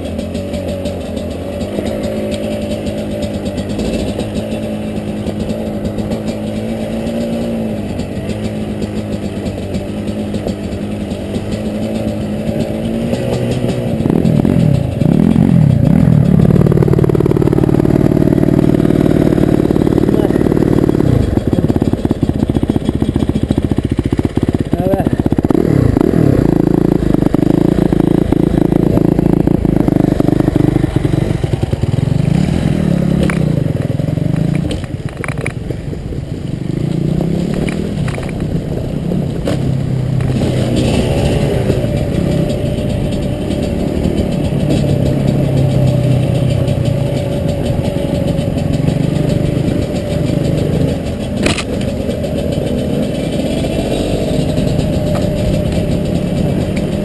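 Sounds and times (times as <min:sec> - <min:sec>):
dirt bike engine revving: 0:00.0 - 0:35.6, 0:36.3 - 0:57.0.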